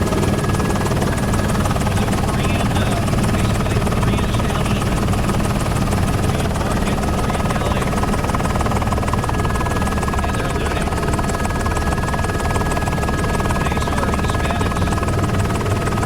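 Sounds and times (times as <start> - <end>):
helicopter rotor rumble: 0.0 - 16.0.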